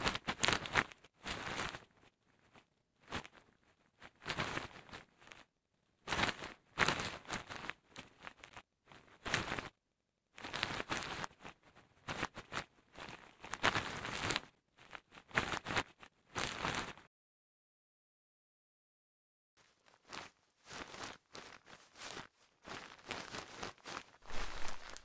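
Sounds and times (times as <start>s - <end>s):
cloth rustling and crumpling: 0.0s - 9.8s, 10.4s - 17.1s, 19.6s - 25.0s.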